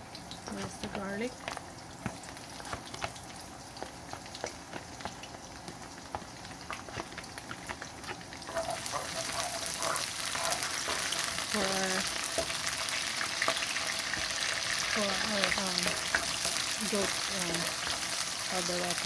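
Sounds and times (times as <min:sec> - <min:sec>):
garlic sizzling in oil: 0:00.0 - 0:19.0.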